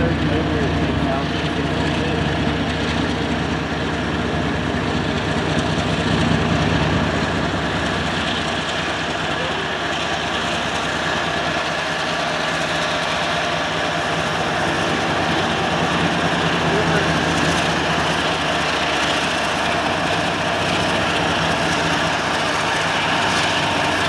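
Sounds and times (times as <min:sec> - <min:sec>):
diesel locomotive engine running: 0:00.0 - 0:24.0
train wheels on rails: 0:00.0 - 0:24.0.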